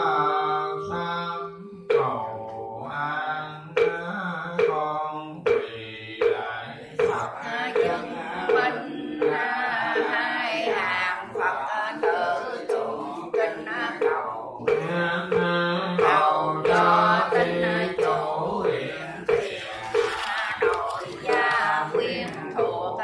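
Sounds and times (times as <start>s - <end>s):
voices chanting prayers: 0.0s - 23.0s
regular knocking beat: 1.8s - 23.0s.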